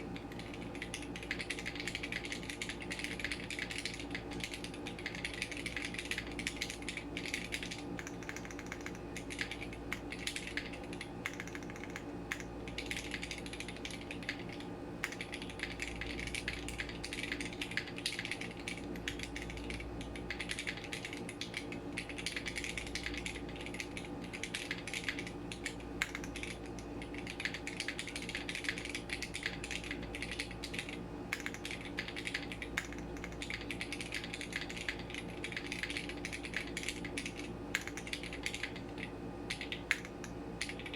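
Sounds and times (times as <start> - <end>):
clacky mechanical keyboard typing: 0.0 - 40.9
steady low hum: 0.0 - 40.9.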